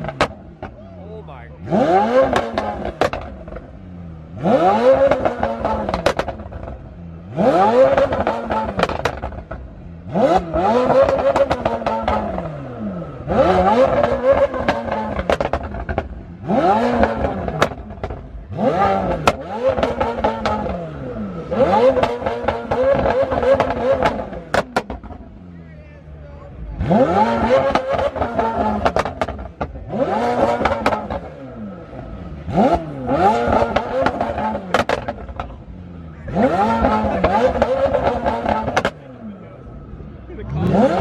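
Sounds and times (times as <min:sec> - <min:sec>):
car engine revving hard: 0:00.0 - 0:00.8, 0:01.5 - 0:25.4, 0:26.5 - 0:41.0.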